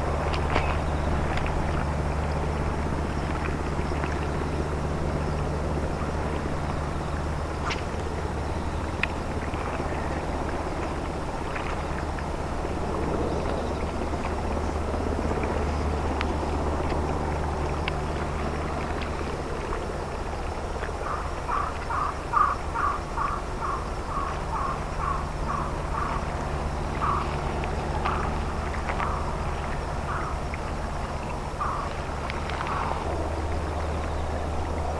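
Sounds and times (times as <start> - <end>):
boat diesel engine droning: 0.0 - 34.9.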